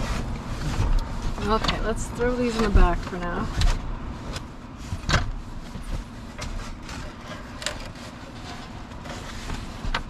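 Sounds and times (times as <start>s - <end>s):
rustling of foam cushions: 0.0s - 10.0s.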